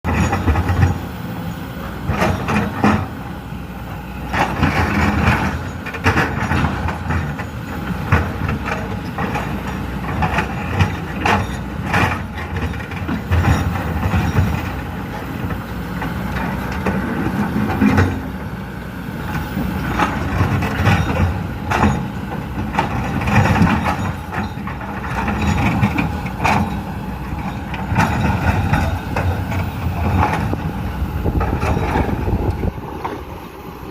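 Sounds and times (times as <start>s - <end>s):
excavator diesel engine: 0.0s - 33.9s.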